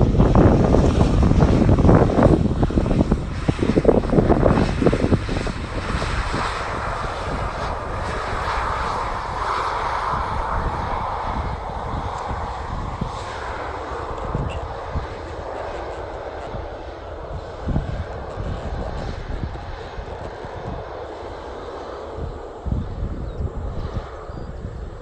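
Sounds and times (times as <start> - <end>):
airliner engines passing: 0.0 - 25.0.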